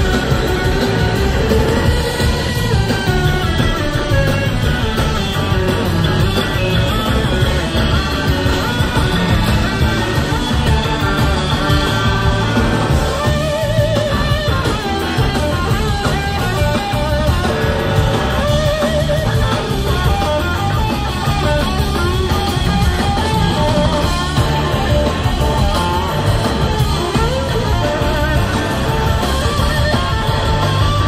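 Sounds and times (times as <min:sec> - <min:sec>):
bass guitar: 0:00.0 - 0:31.0
drum kits: 0:00.0 - 0:31.0
electric slide guitar: 0:00.0 - 0:31.0
organ: 0:00.0 - 0:31.0.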